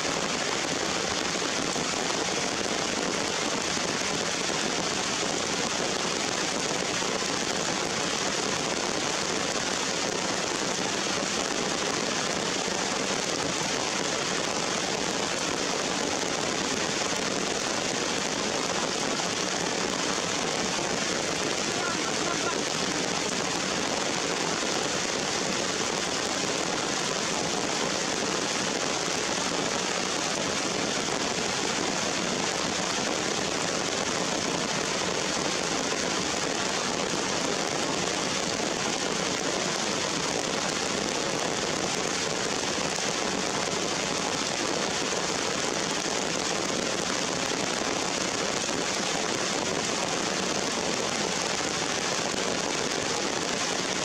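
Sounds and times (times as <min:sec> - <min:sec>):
rain on leaves and rocks: 0:00.0 - 0:54.0.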